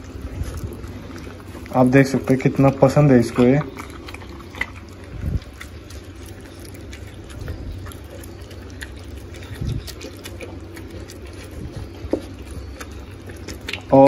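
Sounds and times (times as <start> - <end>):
puppy chewing wet food: 0.0 - 14.0.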